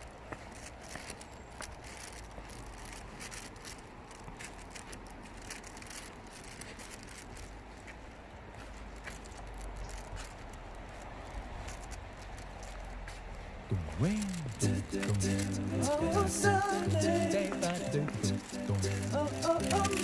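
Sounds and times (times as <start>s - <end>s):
small scattered clicks: 0.0s - 20.0s.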